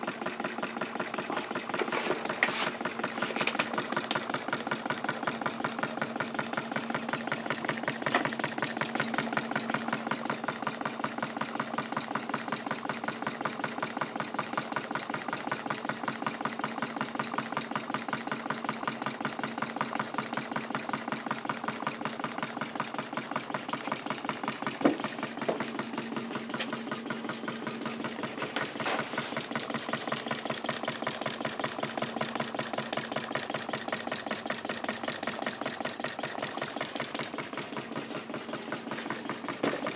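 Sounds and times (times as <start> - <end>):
model steam engine running: 0.0 - 39.9.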